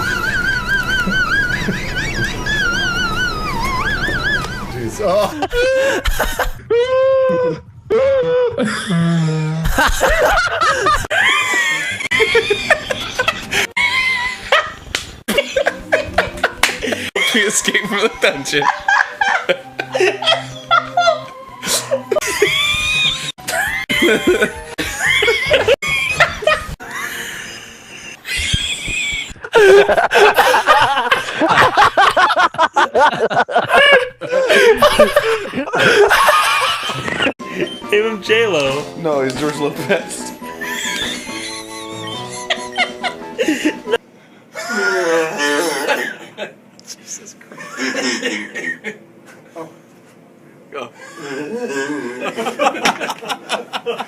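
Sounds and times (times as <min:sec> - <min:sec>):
people wheeze laughing: 0:00.0 - 0:18.0, 0:18.6 - 0:37.8, 0:40.6 - 0:46.6, 0:47.6 - 0:49.0, 0:51.0 - 0:54.0.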